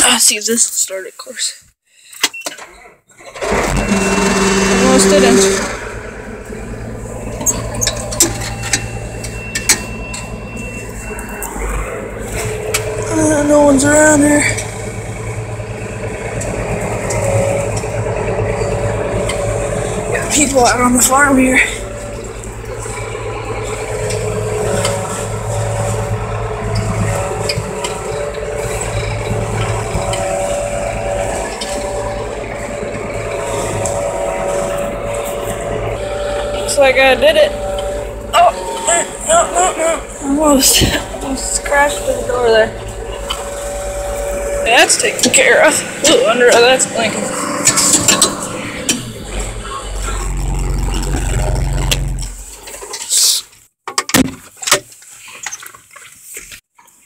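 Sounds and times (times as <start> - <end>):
tractor engine running: 2.2 - 57.0.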